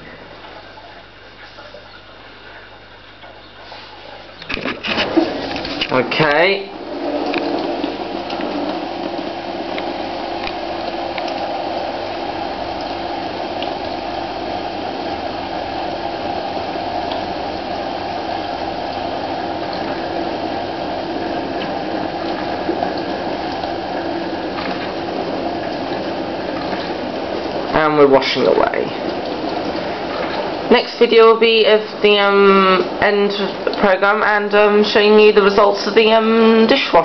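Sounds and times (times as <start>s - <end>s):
pump humming: 0.0s - 37.0s
water rushing in dishwasher: 0.0s - 37.0s.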